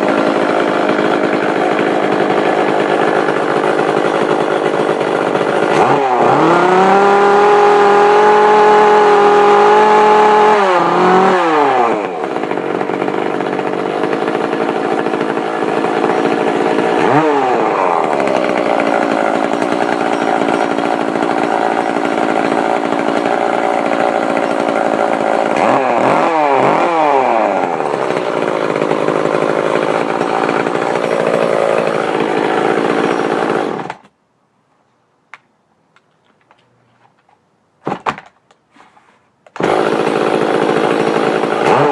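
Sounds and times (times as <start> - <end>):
chainsaw revving and idling: 0.0 - 34.0, 39.6 - 41.9.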